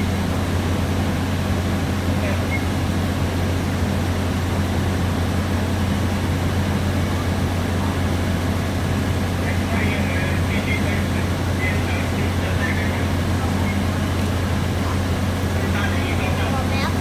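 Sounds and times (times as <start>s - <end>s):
diesel train engine idling: 0.0s - 17.0s.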